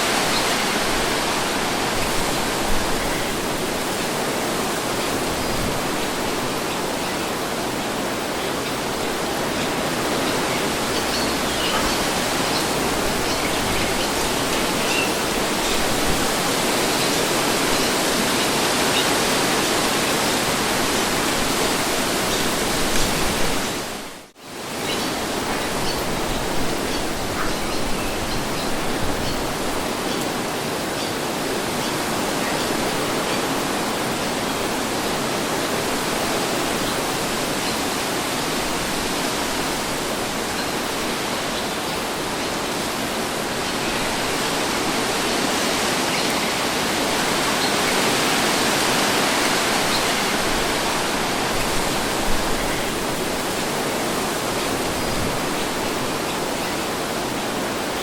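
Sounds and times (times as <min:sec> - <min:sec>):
rushing wind: 0:00.0 - 0:58.0.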